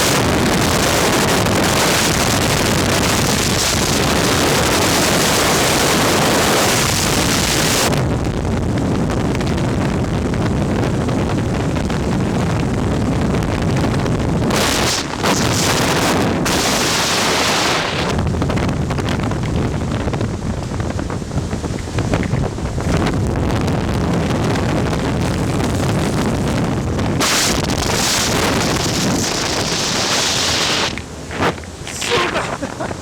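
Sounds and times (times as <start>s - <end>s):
ventilation fan air rush: 0.0s - 33.0s
wind buffeting microphone: 0.0s - 33.0s.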